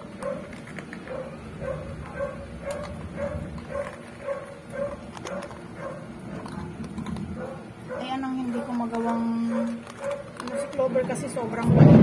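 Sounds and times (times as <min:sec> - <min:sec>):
dogs eating dry kibble: 0:00.0 - 0:12.0.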